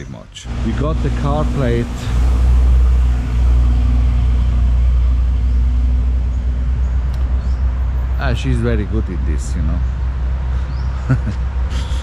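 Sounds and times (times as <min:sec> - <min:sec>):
vehicle engine running: 0:00.4 - 0:12.0.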